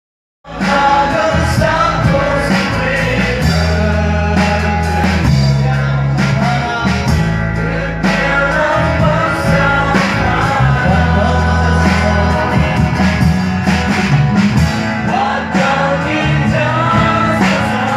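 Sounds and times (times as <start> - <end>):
bass notes: 0.4 - 17.9
drum beats: 0.5 - 17.9
electric guitar: 0.5 - 17.9
voices singing: 0.5 - 17.9.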